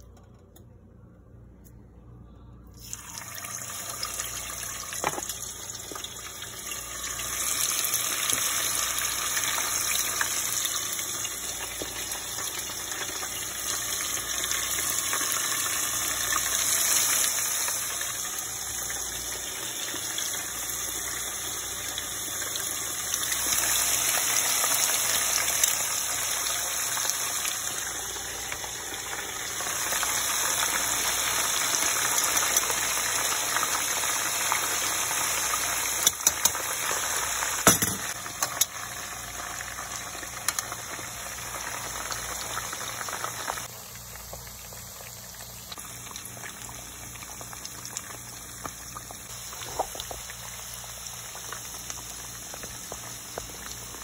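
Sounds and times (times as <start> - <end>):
oil sizzling and crackling: 2.8 - 54.0.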